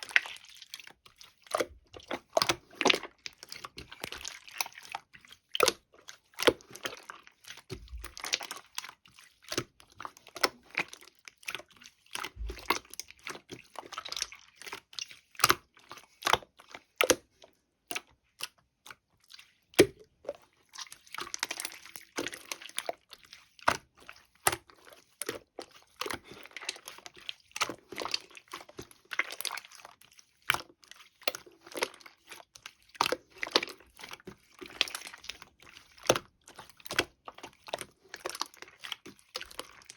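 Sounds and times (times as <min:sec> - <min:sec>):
crinkling and crunching: 0:00.0 - 0:39.9.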